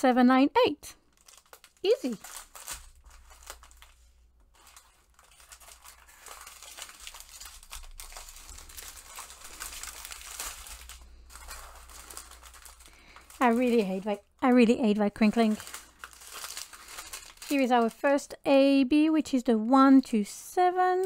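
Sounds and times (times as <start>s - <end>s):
plastic packets crinkling: 1.0s - 18.2s.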